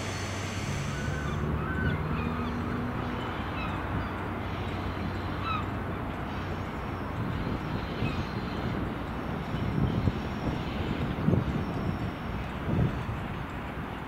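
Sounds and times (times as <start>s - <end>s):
bird calls: 0.0s - 12.4s
distant diesel train drone: 0.0s - 14.0s.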